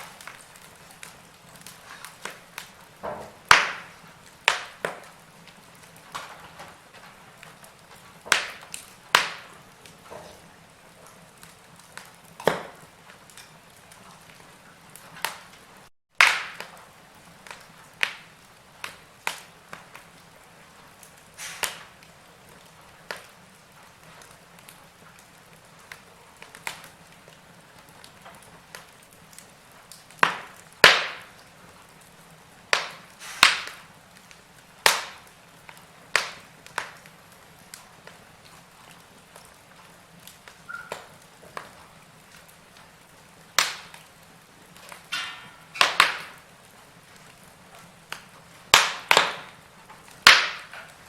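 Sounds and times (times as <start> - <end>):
faint steady hiss: 0.0 - 51.0
wood logs crackling in fireplace: 0.0 - 51.0.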